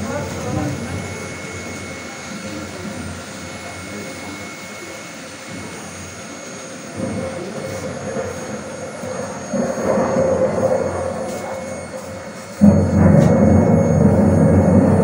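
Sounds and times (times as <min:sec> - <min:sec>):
rumbling thunder: 0:00.0 - 0:04.0, 0:06.9 - 0:15.0.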